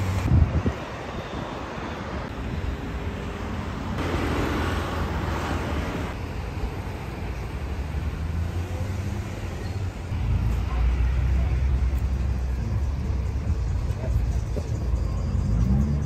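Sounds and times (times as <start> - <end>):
cars rumbling along road: 0.0 - 16.0.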